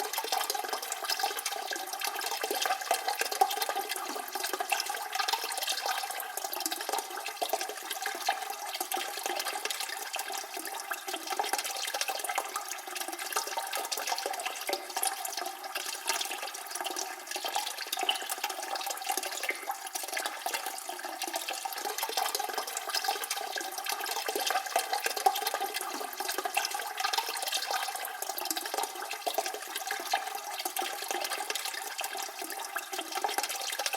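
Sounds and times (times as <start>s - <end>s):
toilet cistern refilling: 0.0s - 33.9s.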